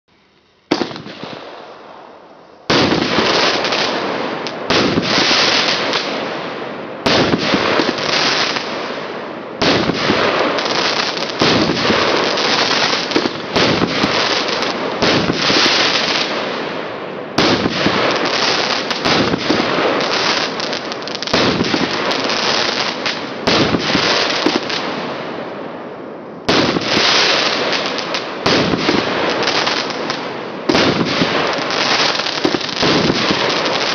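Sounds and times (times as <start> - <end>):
firework reports with crackling: 0.7 - 25.8, 26.4 - 33.9.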